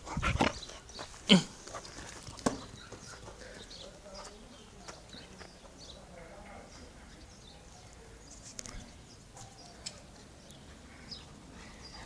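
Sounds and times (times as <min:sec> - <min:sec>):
small birds chirping: 0:00.3 - 0:12.0.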